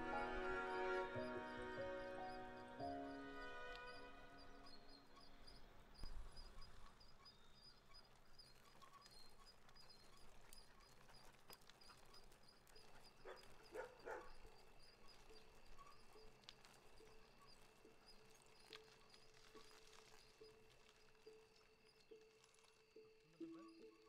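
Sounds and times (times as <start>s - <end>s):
soft high chirping: 0.3s - 24.0s.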